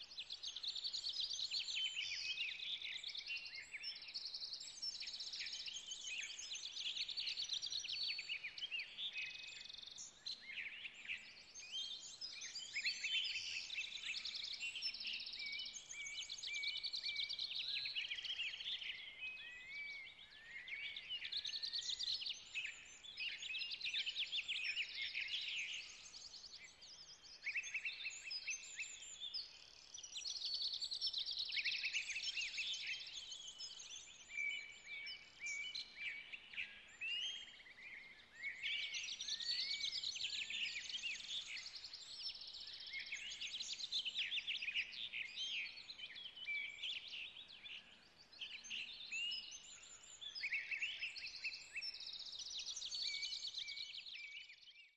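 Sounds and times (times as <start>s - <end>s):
songbirds singing: 0.0s - 54.9s.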